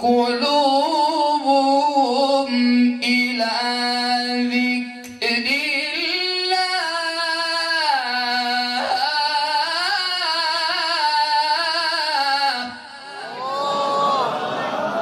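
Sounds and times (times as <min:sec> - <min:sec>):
man chanting melodically: 0:00.0 - 0:13.4.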